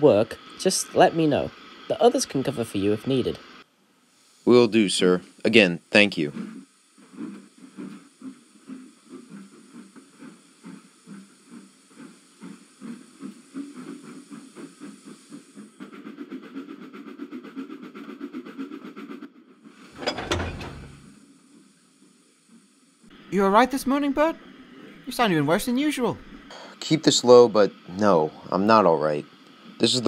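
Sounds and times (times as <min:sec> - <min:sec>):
miniature steam locomotive chuffing: 0:00.0 - 0:03.7, 0:04.4 - 0:21.2, 0:25.0 - 0:30.0.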